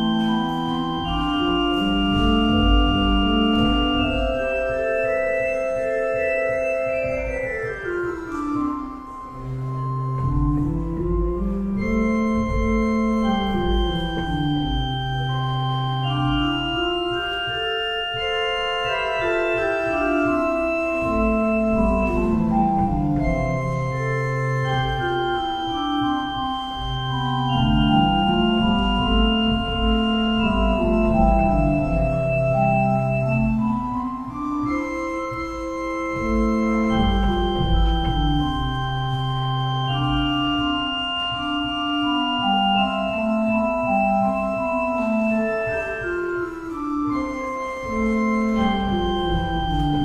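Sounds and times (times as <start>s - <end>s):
low organ pedal line: 0.0s - 50.0s
pipe organ counterpoint: 0.0s - 50.0s.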